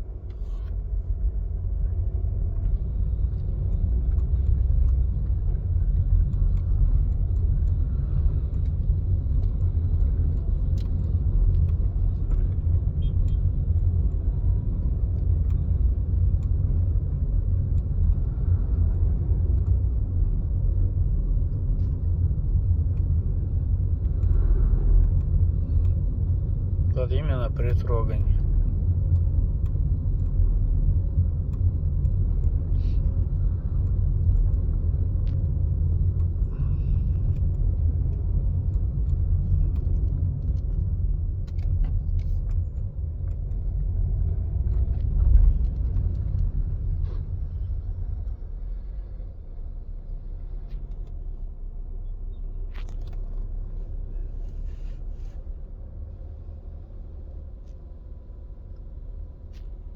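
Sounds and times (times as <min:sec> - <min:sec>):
car pulling away with low rumble: 0:00.0 - 0:59.9.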